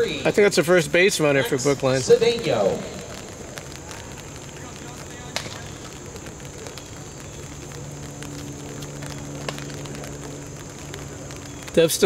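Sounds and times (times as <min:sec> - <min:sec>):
faint crackling: 0:00.0 - 0:12.0
outdoor background hiss: 0:00.0 - 0:12.0.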